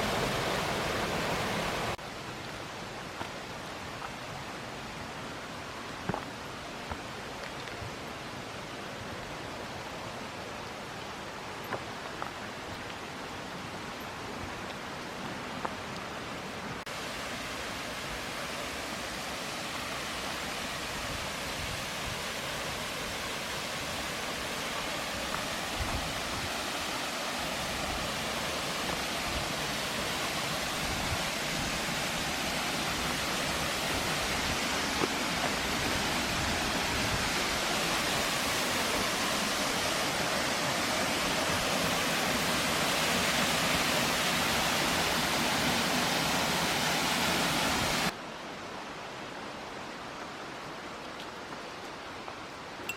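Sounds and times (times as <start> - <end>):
waterfall rushing: 0.0 - 48.2.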